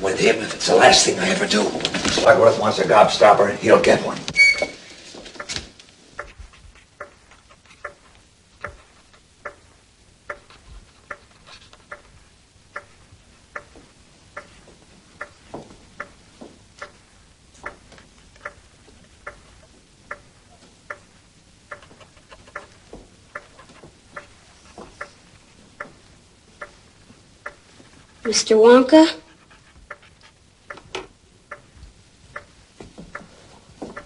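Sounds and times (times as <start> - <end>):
clock ticking: 5.3 - 34.0.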